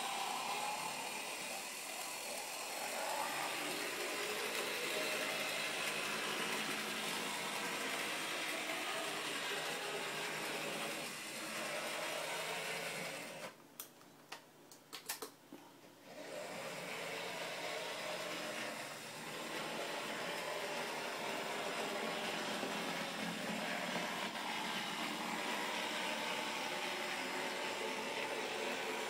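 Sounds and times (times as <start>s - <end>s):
model trains whirring: 0.0s - 13.6s, 16.1s - 29.0s.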